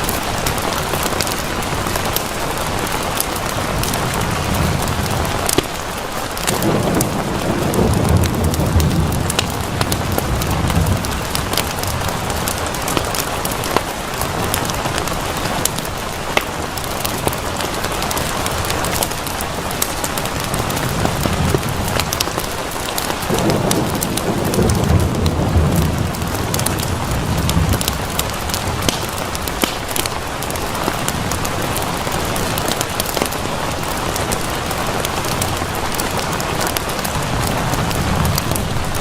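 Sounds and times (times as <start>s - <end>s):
steady rain: 0.0s - 39.0s
wood fire crackling: 0.0s - 39.0s
low rumble of thunder: 0.1s - 16.1s, 18.0s - 39.0s.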